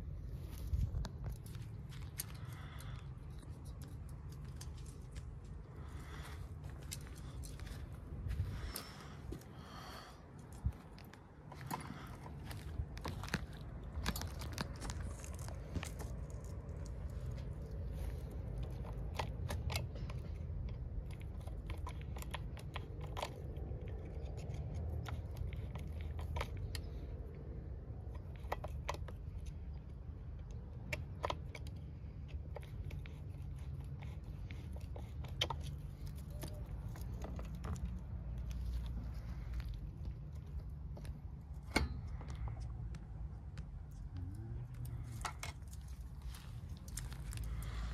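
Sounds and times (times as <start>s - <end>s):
low steady rumble: 0.0s - 47.9s.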